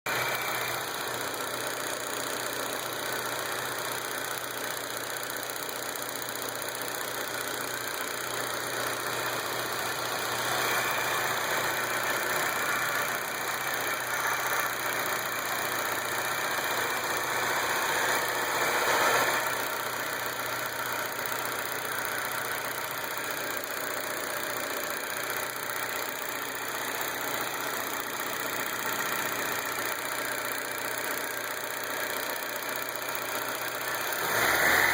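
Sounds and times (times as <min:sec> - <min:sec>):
car engine idling high: 0:00.1 - 0:34.9
engine knocking: 0:00.1 - 0:34.9.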